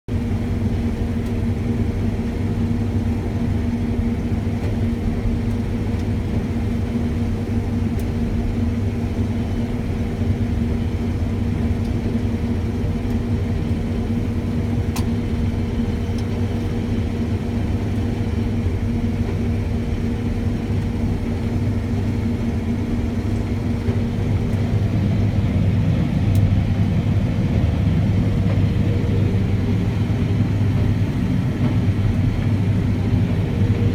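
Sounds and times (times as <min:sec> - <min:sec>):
combine harvester engine hum: 0:00.1 - 0:33.9.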